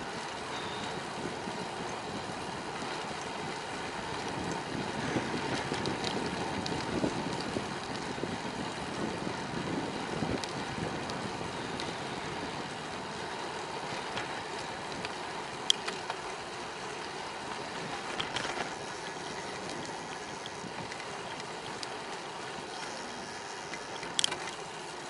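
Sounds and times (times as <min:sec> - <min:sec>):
bicycle tyre and wind noise: 0:00.0 - 0:25.0.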